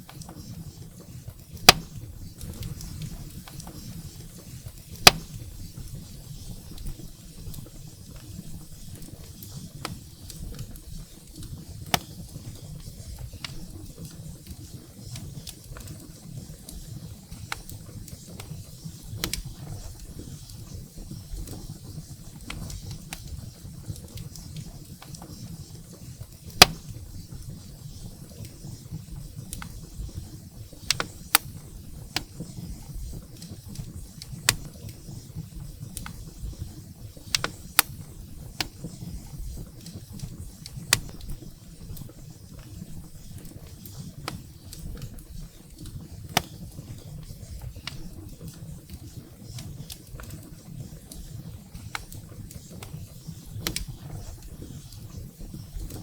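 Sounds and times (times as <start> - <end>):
firewood crackling and popping: 0.0 - 56.0
rumble of flames: 0.0 - 56.0.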